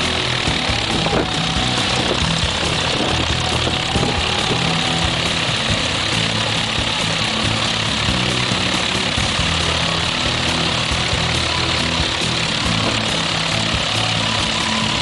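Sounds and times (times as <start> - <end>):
propeller aircraft engine droning: 0.0 - 15.0.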